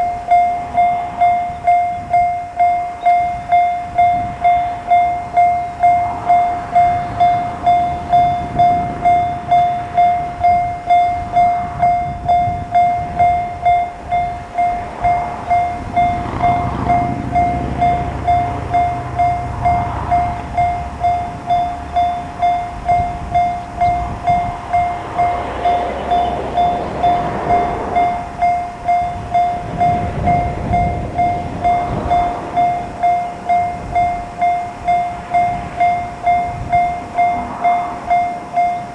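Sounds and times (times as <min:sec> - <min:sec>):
diesel railcar rumbling past: 0:00.0 - 0:38.9
level crossing warning bell: 0:00.0 - 0:38.9.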